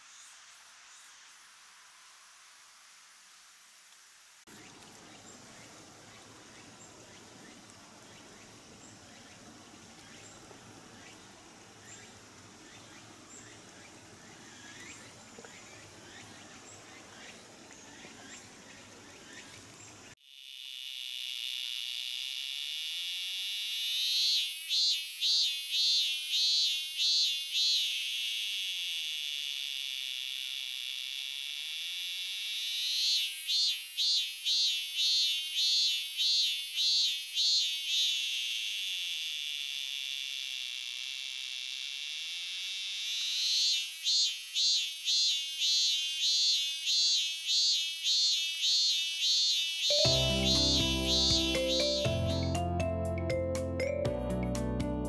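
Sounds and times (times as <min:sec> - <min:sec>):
cicada buzzing and pulsing: 0:00.0 - 0:52.6
faint outdoor background: 0:00.0 - 0:55.0.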